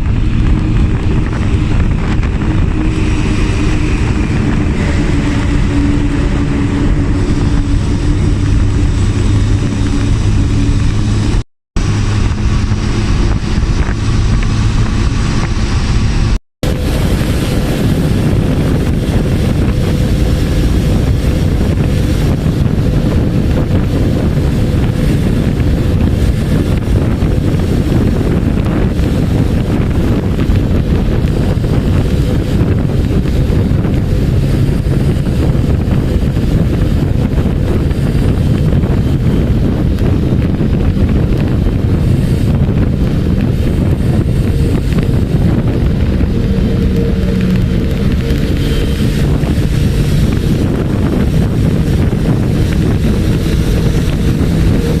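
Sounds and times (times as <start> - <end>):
motorbike road and engine noise: 0.0 - 55.0
wind rushing over microphone: 0.0 - 55.0.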